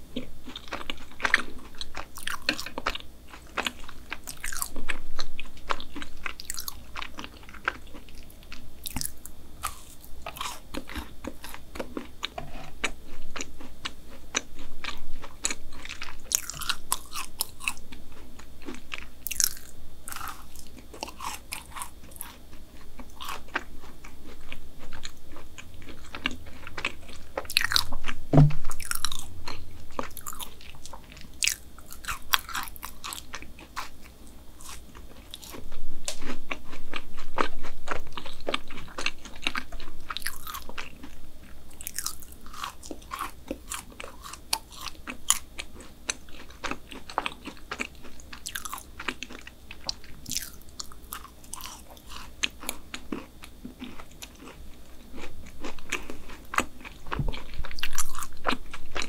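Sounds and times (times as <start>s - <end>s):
chewing and biting brownie: 0.1s - 59.0s.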